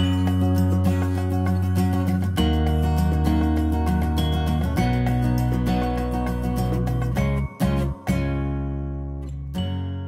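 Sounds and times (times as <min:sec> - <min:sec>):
strummed guitar chords: 0:00.0 - 0:10.0.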